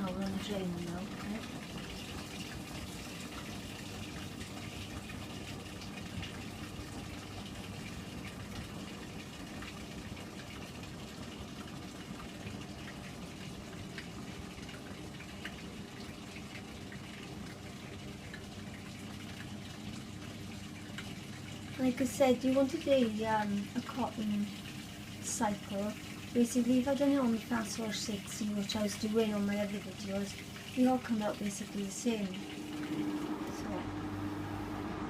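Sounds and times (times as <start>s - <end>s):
washing machine drain pump humming: 0.0s - 35.0s.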